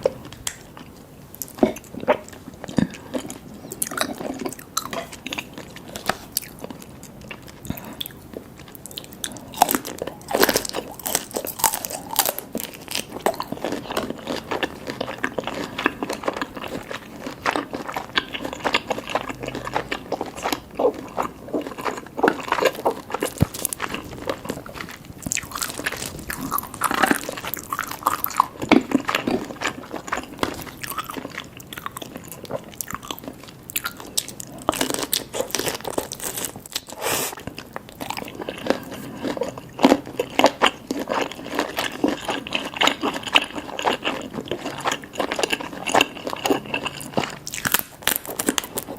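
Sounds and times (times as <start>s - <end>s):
biting and chewing seafood: 0.0s - 48.9s.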